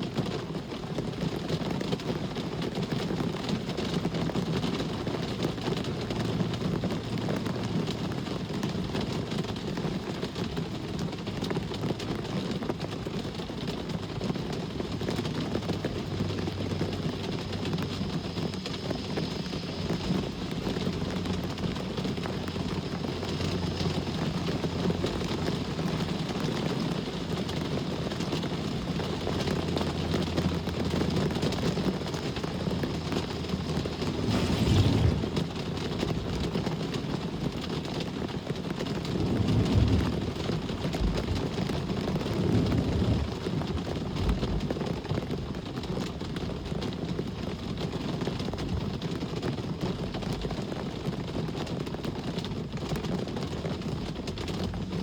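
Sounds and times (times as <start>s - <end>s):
steady rain: 0.0s - 55.0s
road traffic rumble: 0.2s - 55.0s.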